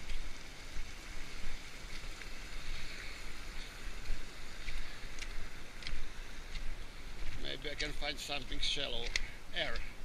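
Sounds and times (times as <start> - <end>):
rushing river water: 0.0 - 10.0.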